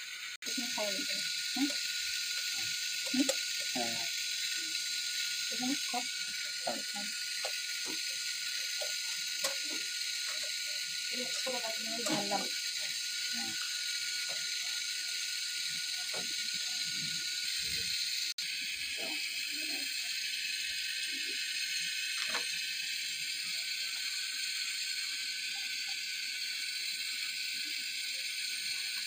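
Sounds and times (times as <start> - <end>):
milk boiling hiss: 0.0 - 29.0.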